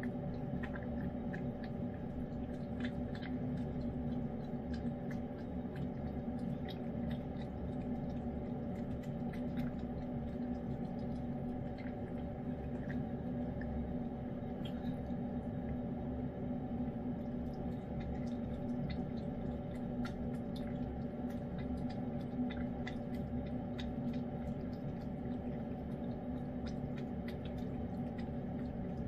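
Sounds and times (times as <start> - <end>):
cat chewing and licking: 0.0 - 29.0.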